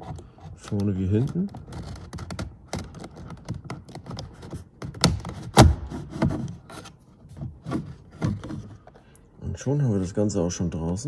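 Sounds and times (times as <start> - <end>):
plastic scraping: 0.0 - 9.1.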